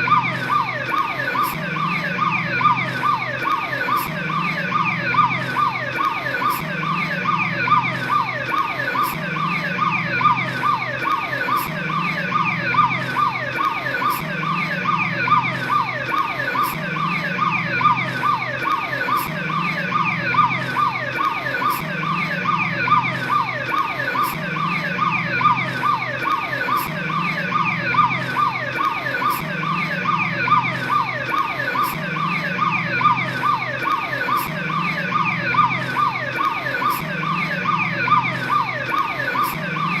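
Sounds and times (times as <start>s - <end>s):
police siren falling sweep: 0.0s - 40.0s.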